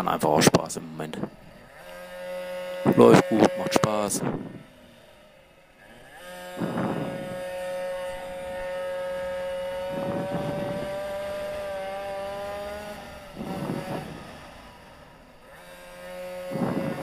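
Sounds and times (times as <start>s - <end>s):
two-stroke engine at high revs: 0.0s - 17.0s.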